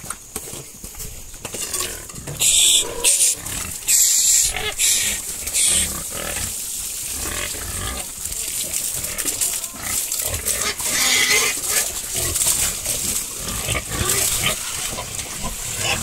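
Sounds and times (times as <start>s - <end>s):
pigs grunting and snuffling: 0.0s - 16.0s
pigs squealing: 1.6s - 6.6s, 7.2s - 16.0s.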